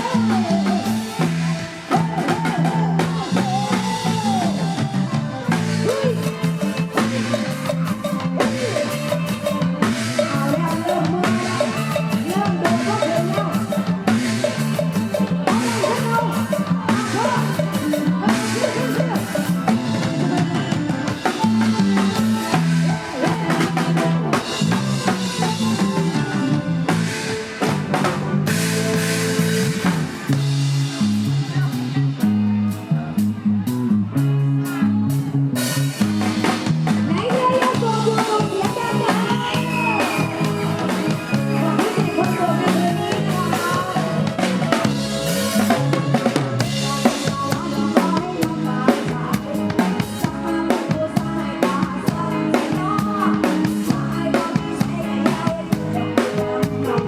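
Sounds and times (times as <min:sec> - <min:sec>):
drum kit steady beat: 0:00.0 - 0:57.0
live band music: 0:00.0 - 0:57.0.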